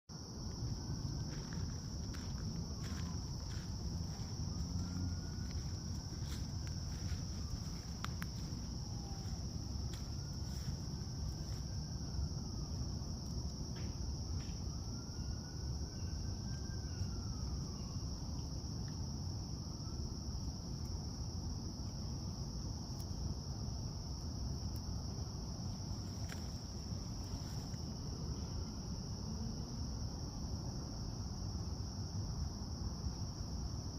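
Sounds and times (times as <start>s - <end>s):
insects chorus: 0.1s - 33.9s.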